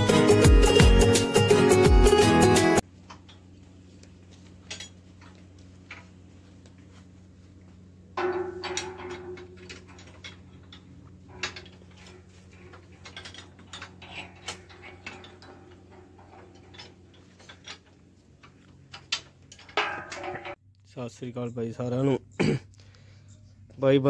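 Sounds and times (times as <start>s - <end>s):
steady low hum: 2.8s - 24.0s.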